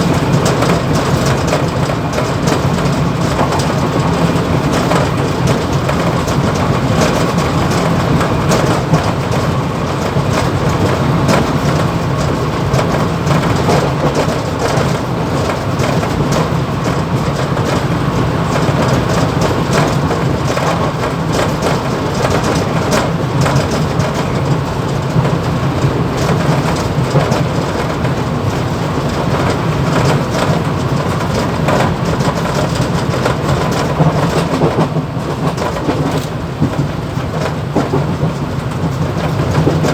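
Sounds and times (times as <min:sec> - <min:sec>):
train cab rattling: 0:00.0 - 0:39.9
train running hum: 0:00.0 - 0:39.9.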